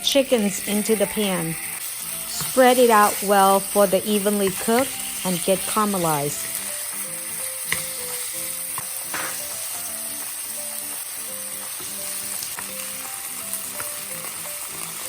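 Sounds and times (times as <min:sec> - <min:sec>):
chicken sizzling in a frying pan: 0:00.0 - 0:15.0
utensil clicking against pan: 0:02.2 - 0:15.0.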